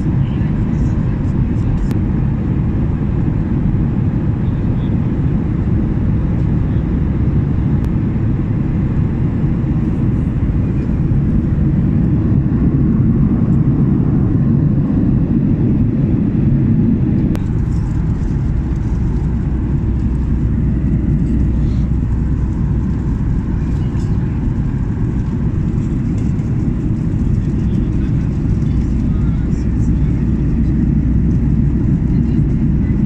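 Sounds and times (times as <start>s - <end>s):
airliner cabin engine rumble: 0.0s - 33.0s.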